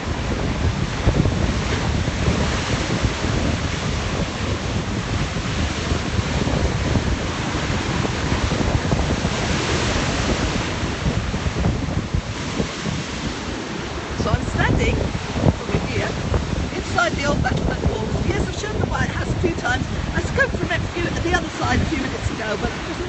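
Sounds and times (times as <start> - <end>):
sea waves breaking: 0.0 - 23.0
wind buffeting microphone: 0.0 - 23.0.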